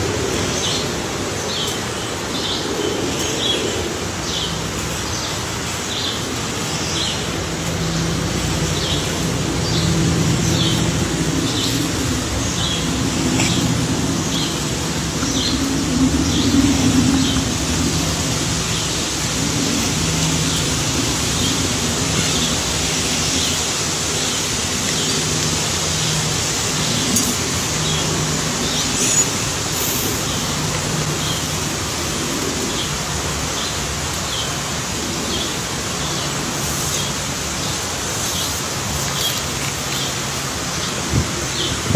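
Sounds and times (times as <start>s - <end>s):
outdoor hiss: 0.0s - 41.9s.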